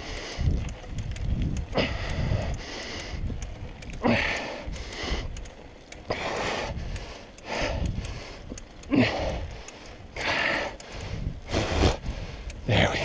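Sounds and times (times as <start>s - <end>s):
heavy laboured breathing: 0.0s - 1.0s, 1.6s - 13.0s.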